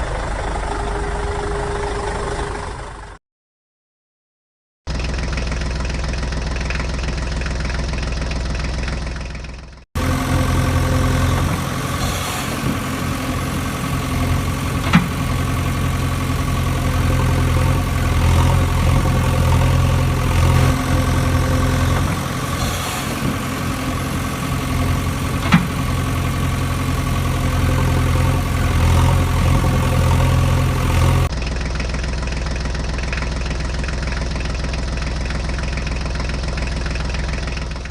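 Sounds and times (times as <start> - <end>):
engine idling: 0.0 - 3.2, 4.9 - 37.9.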